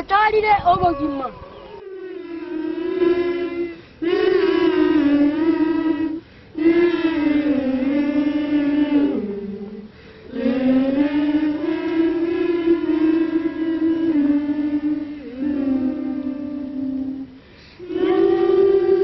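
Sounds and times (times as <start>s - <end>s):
gospel singing: 1.3s - 19.0s.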